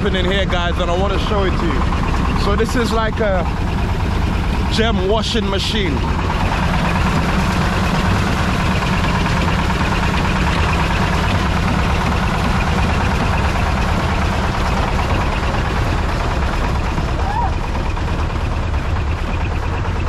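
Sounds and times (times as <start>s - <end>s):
engine rumble: 0.0s - 20.0s.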